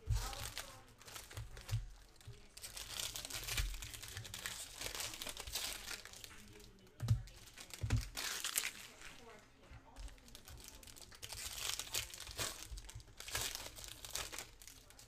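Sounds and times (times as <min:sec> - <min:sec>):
foil wrappers tearing and crinkling: 0:00.0 - 0:09.4, 0:10.0 - 0:15.0.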